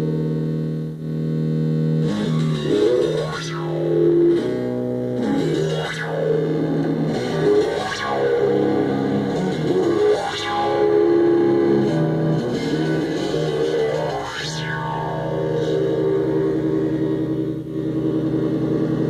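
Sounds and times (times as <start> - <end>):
distorted synthesizer drone: 0.0 - 19.0
synthesizer filter sweeps: 2.0 - 19.0.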